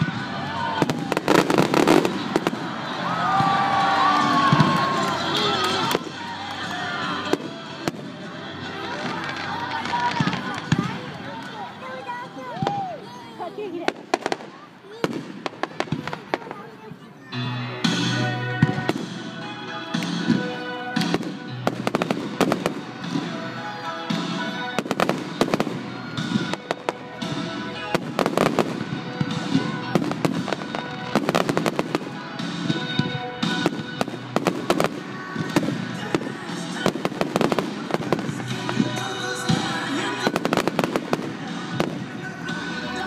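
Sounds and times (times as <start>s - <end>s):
fireworks bursting: 0.0s - 11.6s, 13.8s - 16.8s, 18.6s - 43.0s
music playing: 0.0s - 43.0s.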